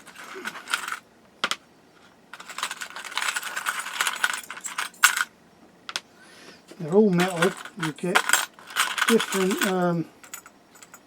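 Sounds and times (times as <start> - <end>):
small metal parts clinking: 0.0 - 5.3, 6.8 - 11.0.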